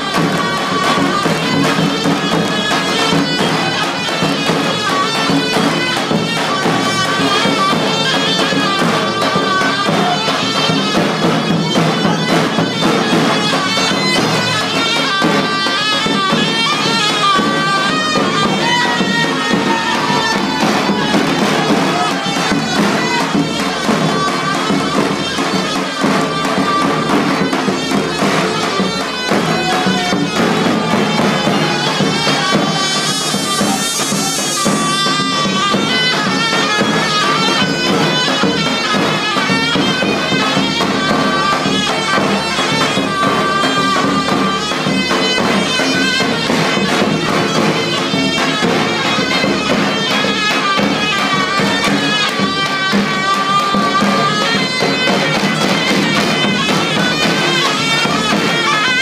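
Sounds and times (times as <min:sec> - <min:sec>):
reedy wind instrument melody: 0:00.0 - 0:59.0
steady drum beat: 0:00.0 - 0:59.0.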